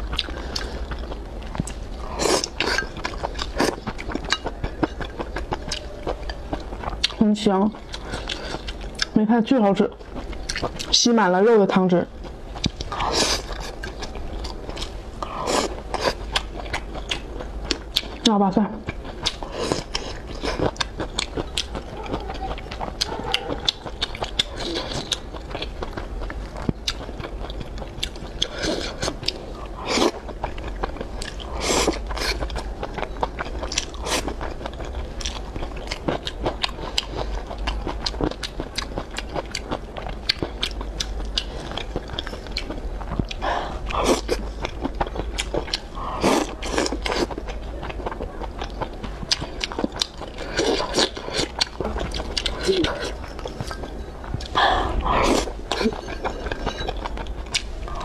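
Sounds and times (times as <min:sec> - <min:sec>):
chewing crunchy garlic: 0:00.0 - 0:58.0.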